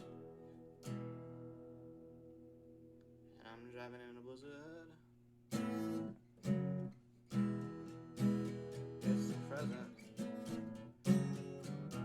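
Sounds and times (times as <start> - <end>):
acoustic guitar strumming chords: 0.0 - 3.2, 5.5 - 12.0.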